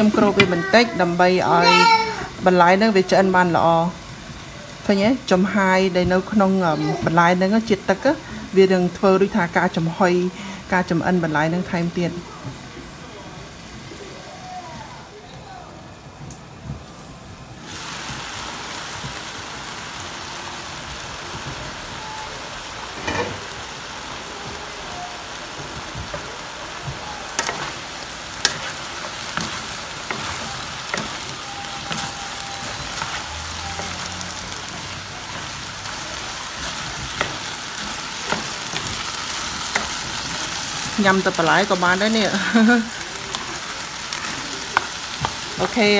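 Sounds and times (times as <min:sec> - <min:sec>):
vegetables sizzling in a pan: 0:00.0 - 0:15.7, 0:17.0 - 0:45.9.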